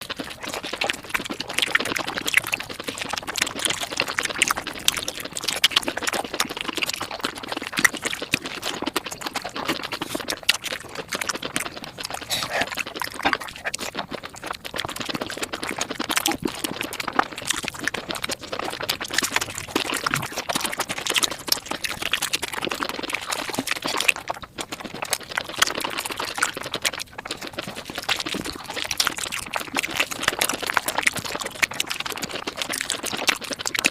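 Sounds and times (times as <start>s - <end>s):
fast chewing and mouth clicks: 0.0s - 33.9s.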